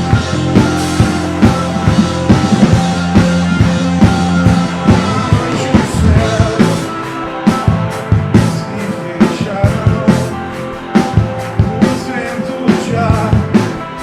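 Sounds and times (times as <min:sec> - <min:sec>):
bass line: 0:00.0 - 0:14.0
drum kit hits: 0:00.0 - 0:14.0
live band playing: 0:00.0 - 0:14.0.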